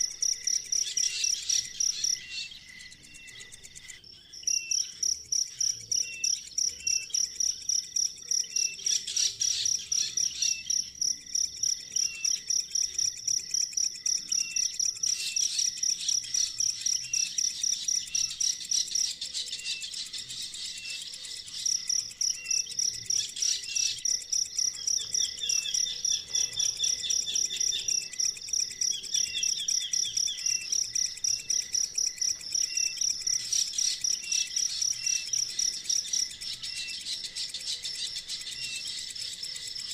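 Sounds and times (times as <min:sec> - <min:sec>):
bird chirps: 0:00.0 - 0:39.9
insect trilling: 0:00.0 - 0:39.9.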